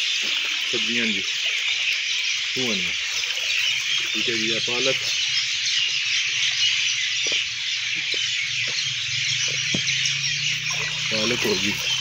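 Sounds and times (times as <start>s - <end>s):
water pouring from a pipe: 0.0s - 12.0s.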